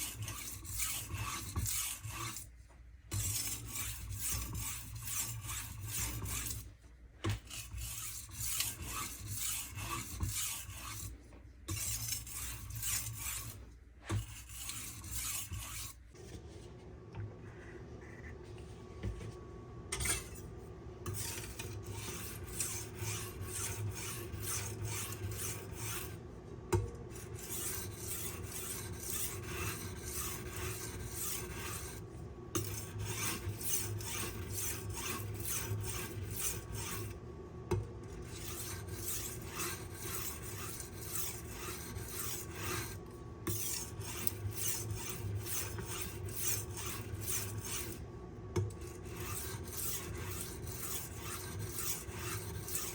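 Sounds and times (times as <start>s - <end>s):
knife scraping on sharpening stone: 0.0s - 2.4s, 3.1s - 6.6s, 7.3s - 11.1s, 11.7s - 16.0s, 20.0s - 20.4s, 21.1s - 26.2s, 27.4s - 32.0s, 32.6s - 37.1s, 38.2s - 48.0s, 48.8s - 52.9s.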